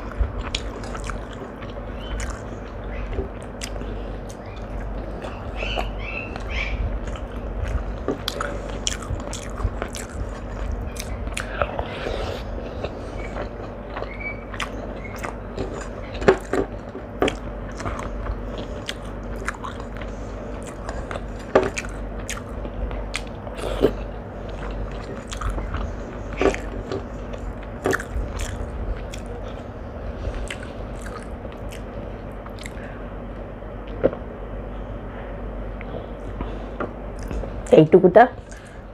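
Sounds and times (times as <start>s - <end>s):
food crunching: 0.0s - 32.9s
person chewing food: 0.0s - 34.2s, 35.8s - 37.7s, 38.4s - 38.9s.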